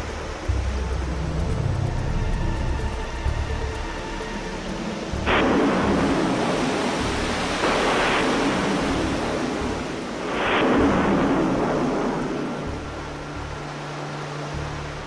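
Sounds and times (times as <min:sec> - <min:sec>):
rushing rumbling noise: 0:00.0 - 0:13.9.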